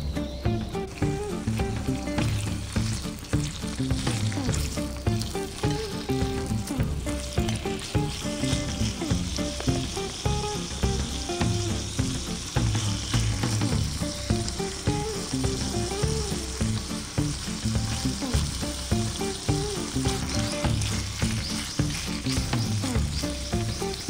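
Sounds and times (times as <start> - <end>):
meat sizzling in a hot pan: 0.0 - 24.0
soft background music: 0.0 - 24.0
chopsticks moving meat slices: 0.2 - 24.0.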